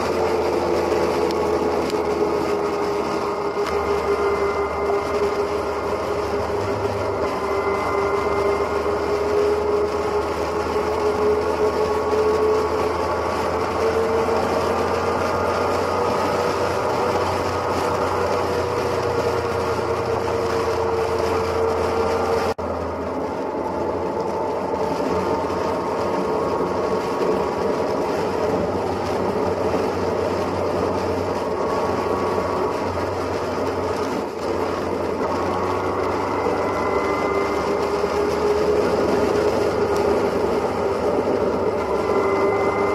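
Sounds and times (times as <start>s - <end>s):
motorcycle engine drone: 0.0s - 42.9s
wind rush: 0.0s - 42.9s.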